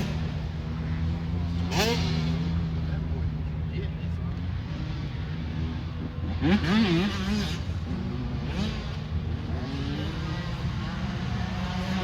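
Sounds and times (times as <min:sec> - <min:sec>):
dirt bike engine revving: 0:00.0 - 0:03.4, 0:04.4 - 0:12.0.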